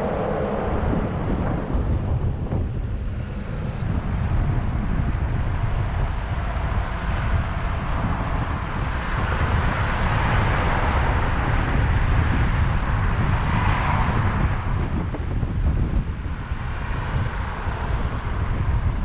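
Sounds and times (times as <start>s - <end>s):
rushing noise: 0.0s - 19.0s
wind buffeting microphone: 0.0s - 19.0s.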